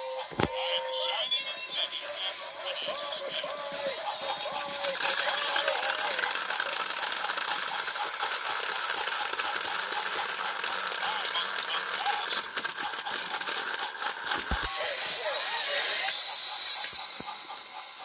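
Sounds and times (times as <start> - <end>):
toy train motors whirring: 0.0 - 18.0.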